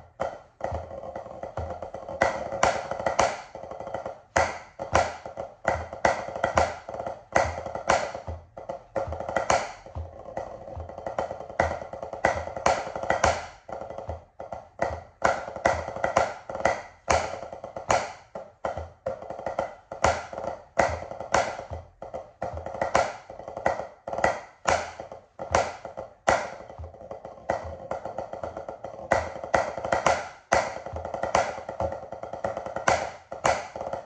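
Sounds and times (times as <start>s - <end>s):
drumsticks on practice pad: 0.0s - 34.0s.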